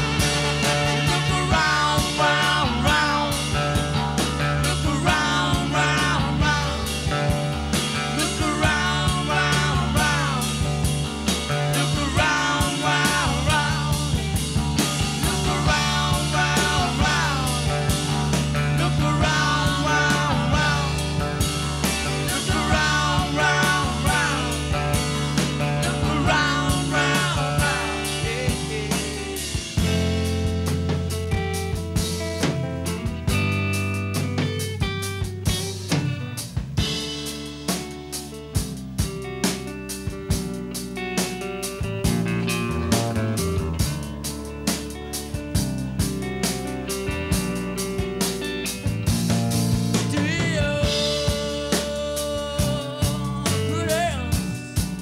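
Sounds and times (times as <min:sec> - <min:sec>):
live funk rock band: 0:00.0 - 0:55.0.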